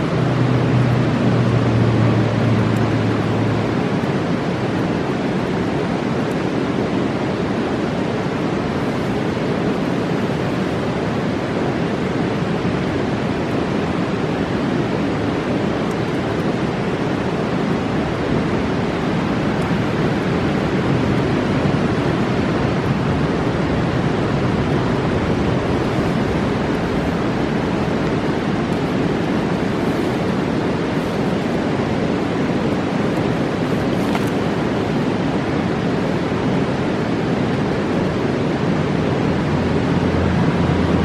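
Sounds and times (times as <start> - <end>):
rushing river water: 0.0 - 41.0.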